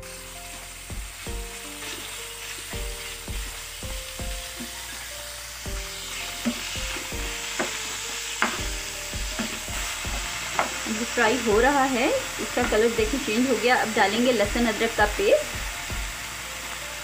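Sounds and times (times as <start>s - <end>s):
chicken sizzling in frying pan: 0.0s - 17.0s.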